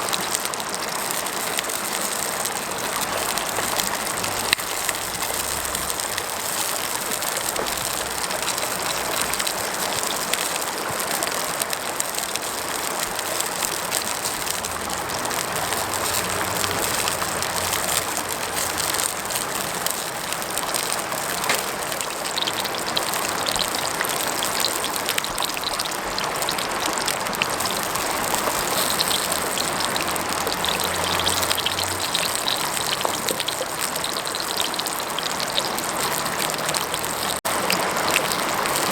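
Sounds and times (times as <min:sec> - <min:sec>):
light crackles: 0:00.0 - 0:38.9
mountain stream rushing: 0:00.0 - 0:38.9.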